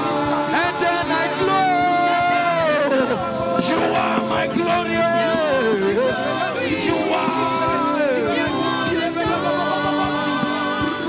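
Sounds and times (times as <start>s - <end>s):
held accompaniment chords: 0.0s - 11.0s
voices singing gospel: 0.0s - 11.0s.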